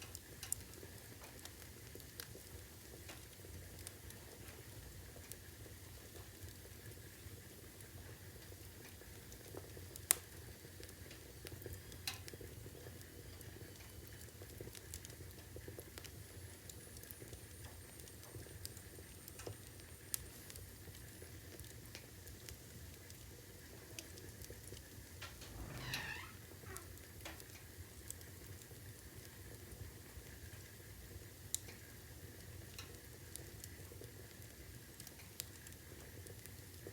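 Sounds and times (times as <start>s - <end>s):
burning logs crackling: 0.0s - 36.9s.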